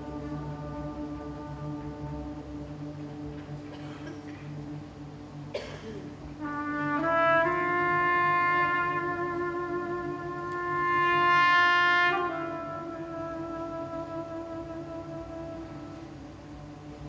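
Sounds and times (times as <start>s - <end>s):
trumpet holding a long note: 0.0s - 3.8s, 6.3s - 17.0s.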